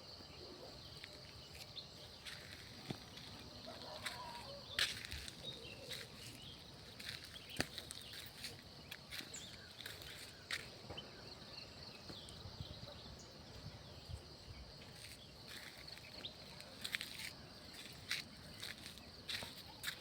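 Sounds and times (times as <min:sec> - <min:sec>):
high insect hum: 0:00.0 - 0:20.0.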